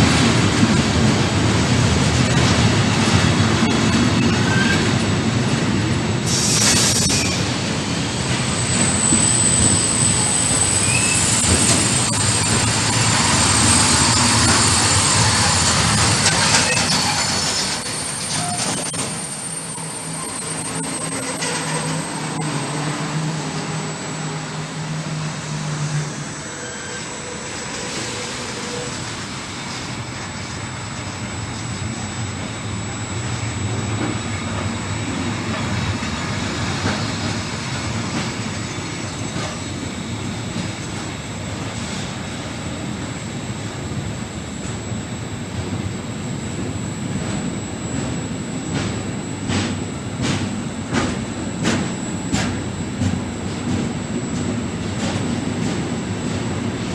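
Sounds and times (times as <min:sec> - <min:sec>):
train rumbling past: 0:00.0 - 0:56.9.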